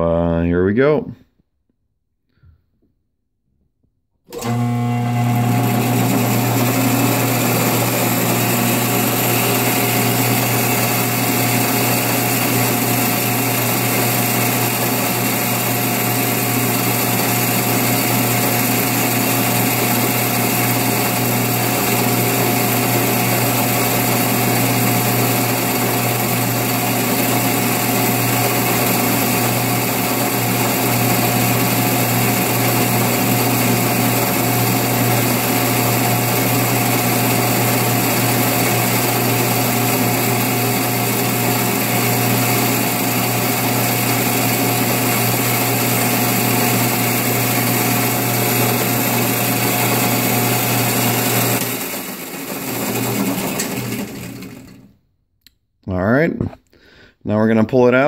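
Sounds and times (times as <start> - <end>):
metal lathe motor hum: 4.3 - 54.9.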